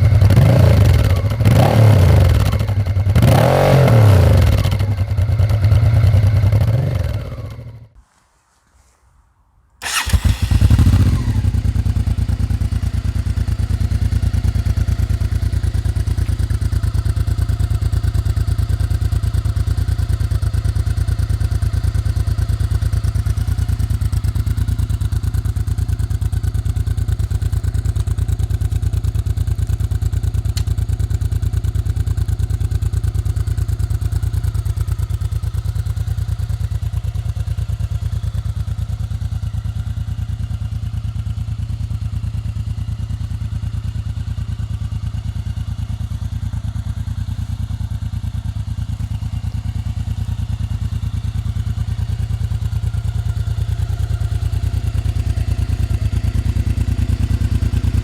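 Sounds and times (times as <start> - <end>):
motorcycle engine starting and idling: 0.0 - 8.0, 9.8 - 58.0.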